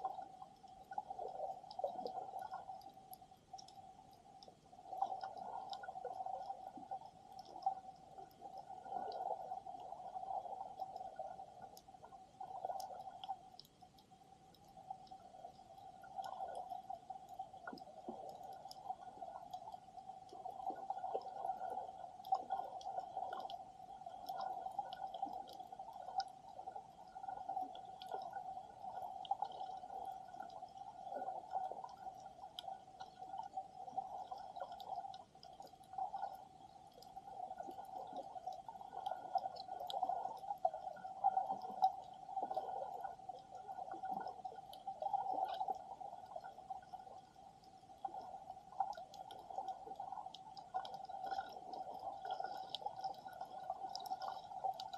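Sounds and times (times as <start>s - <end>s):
faint crackle of tiny clicks: 0.0s - 54.9s
steady underwater hum: 0.0s - 54.9s
water swishing: 0.0s - 54.9s.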